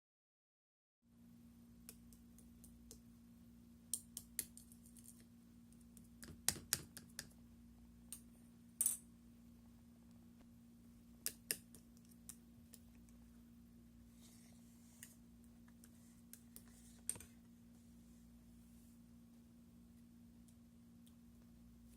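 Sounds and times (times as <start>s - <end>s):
steady low hum: 1.1s - 21.9s.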